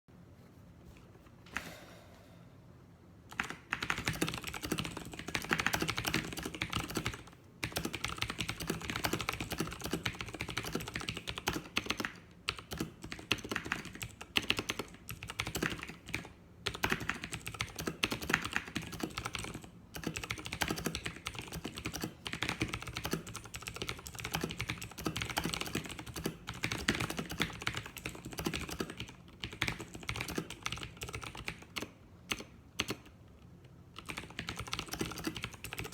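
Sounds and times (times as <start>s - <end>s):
mechanical keyboard typing: 3.3s - 33.1s, 33.9s - 35.9s.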